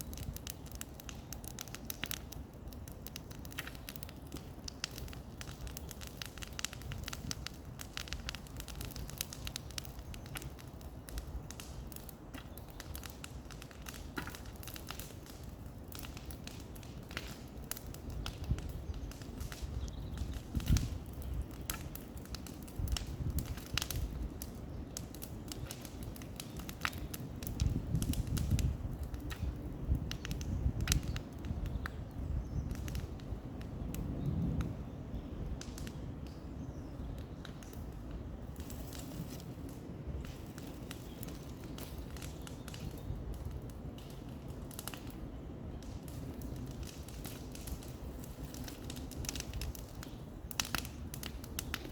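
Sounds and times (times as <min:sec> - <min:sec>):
bonfire crackling and popping: 0:00.0 - 0:51.9.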